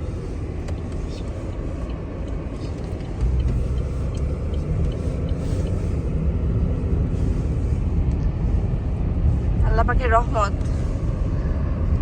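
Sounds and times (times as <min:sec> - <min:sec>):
car tyres and engine rumble: 0:00.0 - 0:12.0.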